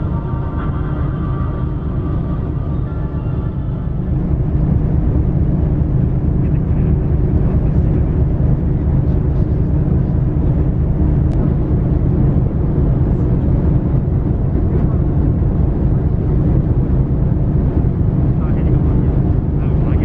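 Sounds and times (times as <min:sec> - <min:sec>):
ship engine humming: 0:00.0 - 0:20.0.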